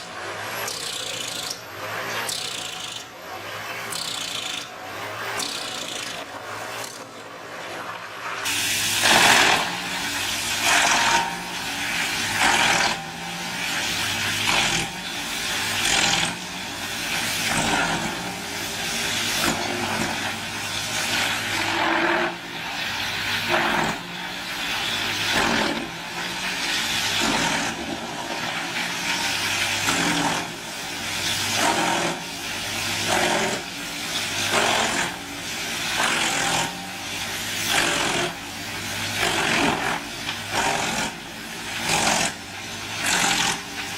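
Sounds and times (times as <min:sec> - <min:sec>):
wood chipper engine drone: 0:00.0 - 0:43.9
wood grinding and crunching: 0:00.0 - 0:43.9.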